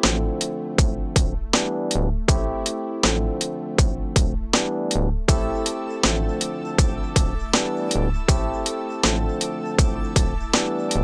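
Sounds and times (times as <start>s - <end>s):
music with steady drum beat: 0.0s - 11.0s.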